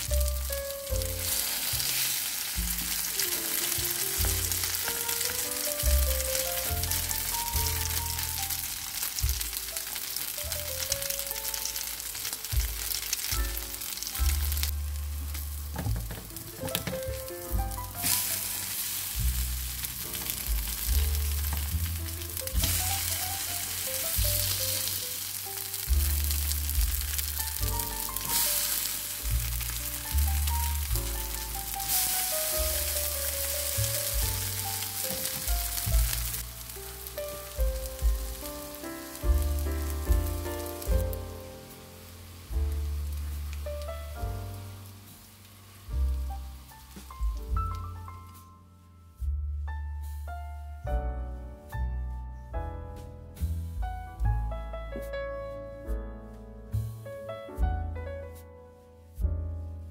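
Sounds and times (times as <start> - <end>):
patties sizzling in a pan: 0.0 - 48.0
background music with bass: 0.0 - 59.9.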